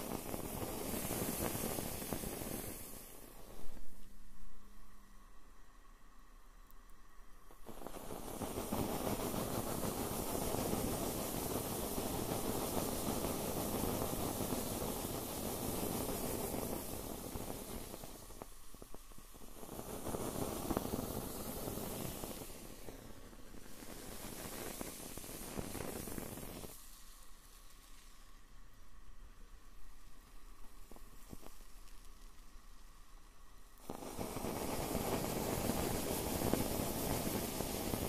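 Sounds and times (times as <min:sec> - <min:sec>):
marshmallows burning hiss: 0:00.0 - 0:05.4, 0:06.9 - 0:38.0.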